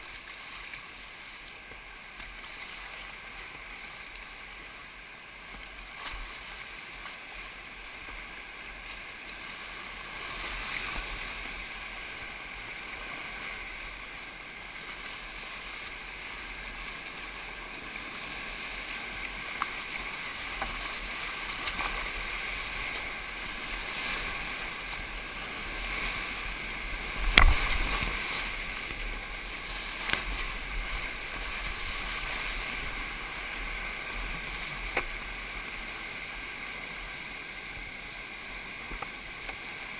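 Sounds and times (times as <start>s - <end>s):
whitewater rushing and splashing: 0.0s - 39.9s.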